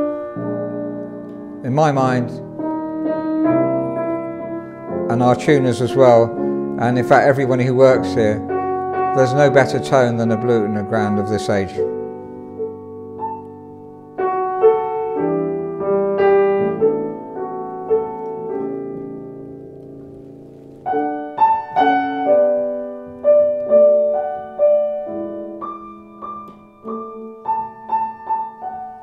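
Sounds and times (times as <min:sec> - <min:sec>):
grand piano playing chords: 0:00.0 - 0:29.0.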